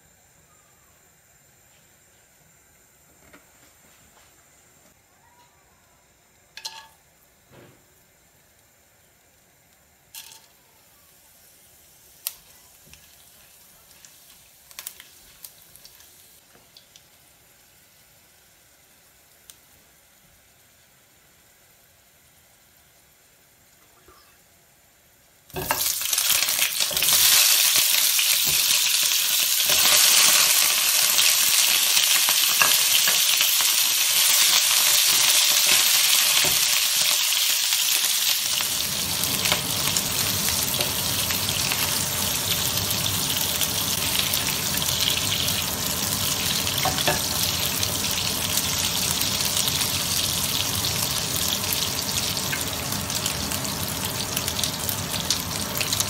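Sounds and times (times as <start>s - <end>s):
meat sizzling in a wok: 6.0s - 23.7s, 24.4s - 56.0s.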